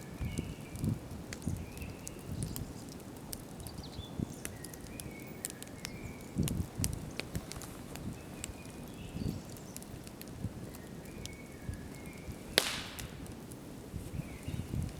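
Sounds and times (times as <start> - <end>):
campfire crackling and popping: 0.0 - 14.9.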